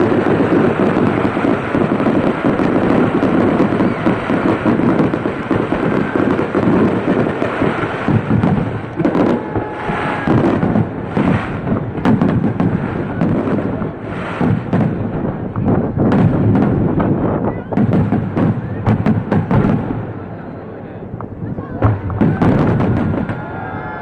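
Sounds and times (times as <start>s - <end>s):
crackling fireworks: 0.0s - 24.0s
fireworks bursting: 0.0s - 24.0s.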